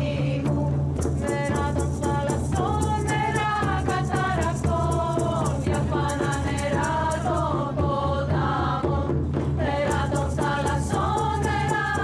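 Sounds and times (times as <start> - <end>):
frame drums beating: 0.0 - 12.0
women singing a chant: 0.0 - 12.0.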